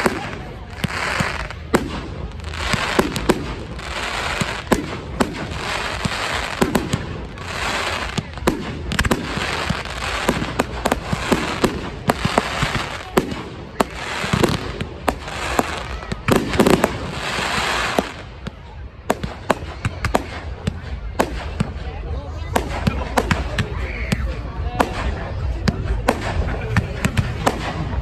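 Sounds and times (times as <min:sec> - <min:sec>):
crackling hiss of fireworks: 0:00.0 - 0:28.0
firework bangs and cracks: 0:00.0 - 0:28.0.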